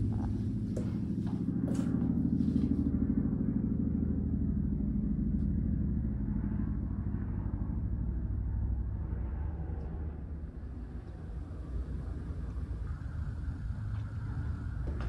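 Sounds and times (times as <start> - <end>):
low fluttering mechanical rumble: 0.0 - 15.0.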